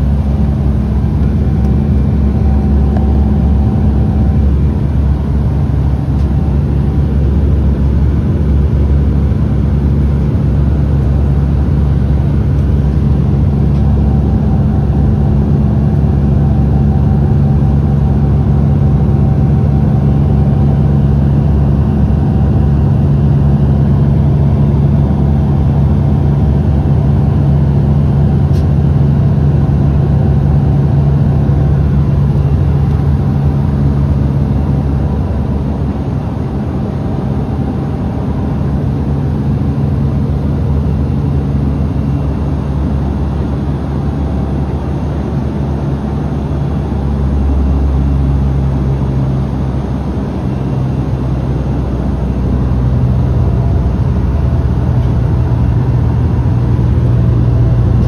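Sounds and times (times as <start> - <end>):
airliner cabin drone: 0.0 - 58.0.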